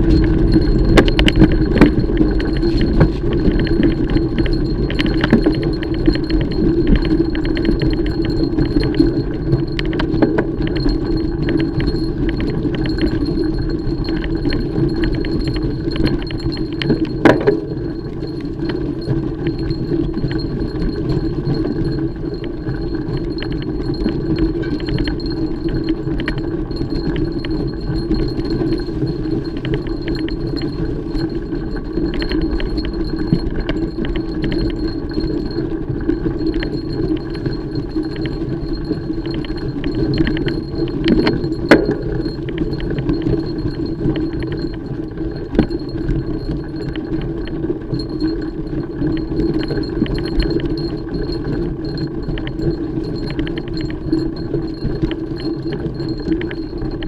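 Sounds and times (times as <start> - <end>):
bike tyres rolling on trail: 0.0 - 57.0
metallic rattling of bike: 0.0 - 57.0.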